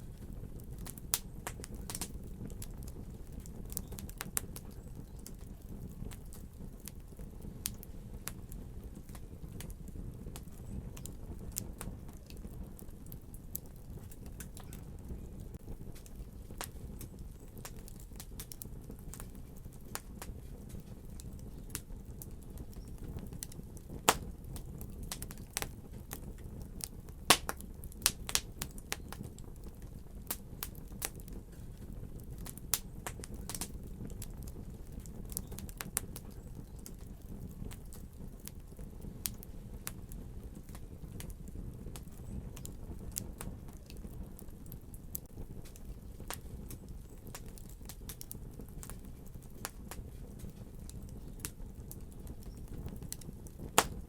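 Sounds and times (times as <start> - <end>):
sharp pops of fire: 0.0 - 54.0
wood fire crackling: 0.0 - 54.0.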